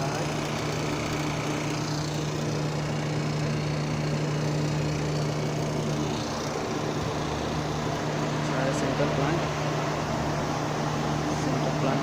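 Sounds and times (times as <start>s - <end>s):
machinery low hum: 0.0s - 12.0s.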